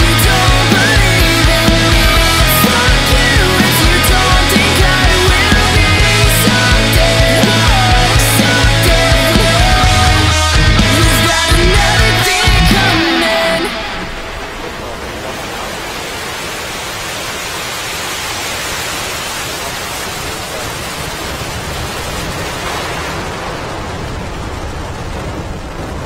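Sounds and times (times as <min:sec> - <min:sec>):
distant rocket engine roar: 0:00.0 - 0:26.0.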